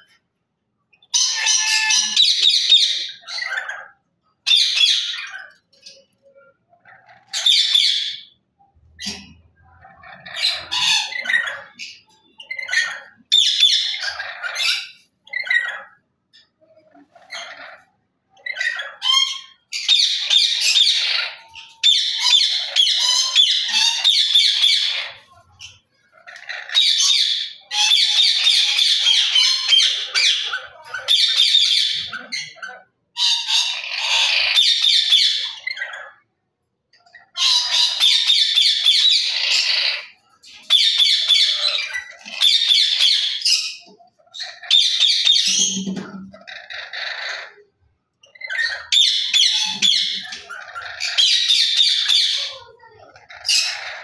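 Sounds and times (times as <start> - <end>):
parrots squawking and chattering: 0.0 - 54.0.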